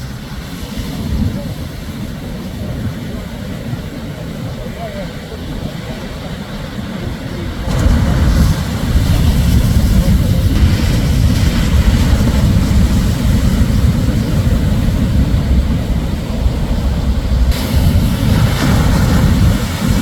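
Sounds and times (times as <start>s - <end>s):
hiss of rushing water: 0.0s - 20.0s
low rumble of waves: 0.0s - 20.0s.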